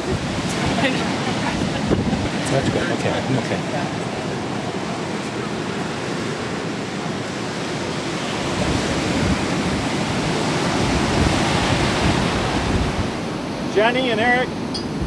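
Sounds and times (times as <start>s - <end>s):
ocean surf breaking on beach: 0.0s - 15.0s
wind rushing on microphone: 0.0s - 15.0s.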